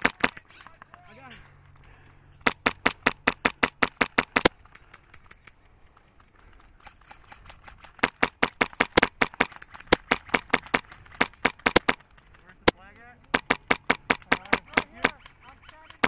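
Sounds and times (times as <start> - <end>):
airsoft rifle shots: 0.0 - 1.4, 2.4 - 5.2, 7.2 - 16.0.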